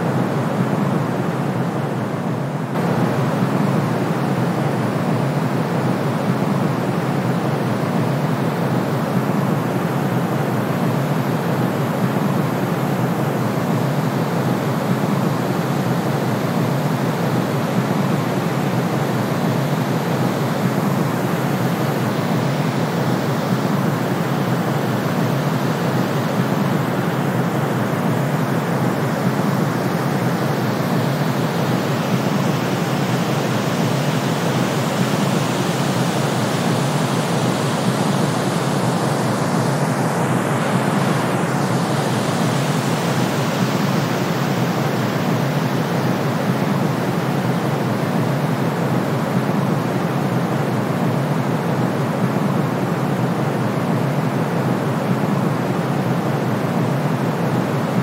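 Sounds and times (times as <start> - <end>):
steady hiss noise: 0.0 - 58.0.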